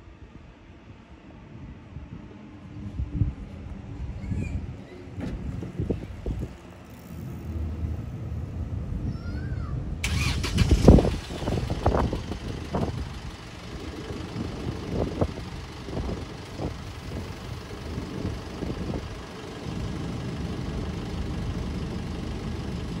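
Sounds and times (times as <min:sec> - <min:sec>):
electric train rumbling past: 0:02.0 - 0:23.0.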